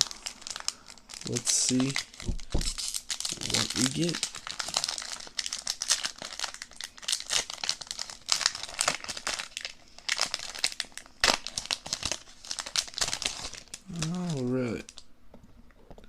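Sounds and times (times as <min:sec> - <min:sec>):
foil pack crinkling and tearing: 0:00.0 - 0:15.0.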